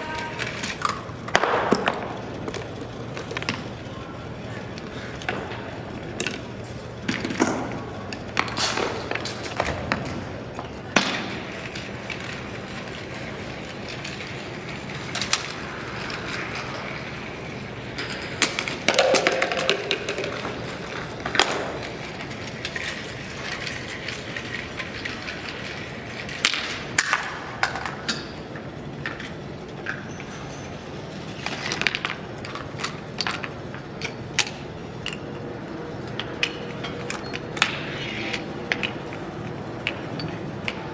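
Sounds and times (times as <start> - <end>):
low background hum: 0.0 - 40.9.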